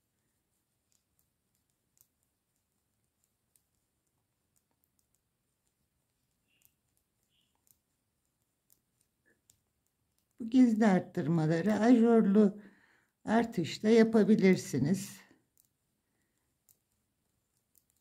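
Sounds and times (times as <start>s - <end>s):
knitting needles clicking: 0.0s - 18.0s.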